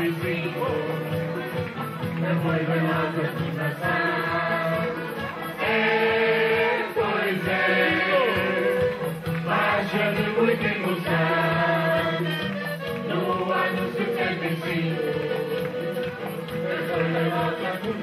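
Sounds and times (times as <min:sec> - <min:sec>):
accordion: 0:00.0 - 0:18.0
acoustic guitar: 0:00.0 - 0:18.0
choir singing: 0:02.3 - 0:18.0.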